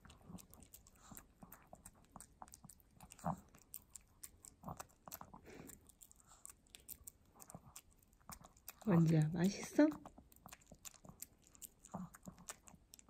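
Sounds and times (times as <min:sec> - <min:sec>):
dog chewing wet food: 0:00.0 - 0:13.0.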